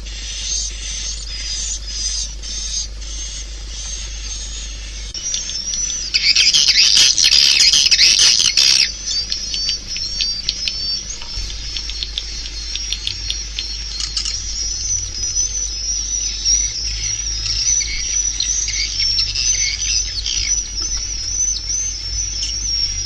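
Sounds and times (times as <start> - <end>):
swiftlets twittering: 0.0 - 23.0.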